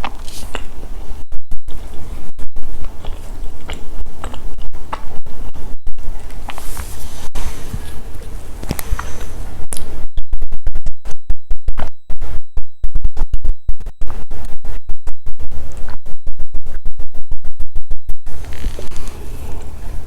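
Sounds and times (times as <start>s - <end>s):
microphone crackling and popping: 0.0s - 19.3s.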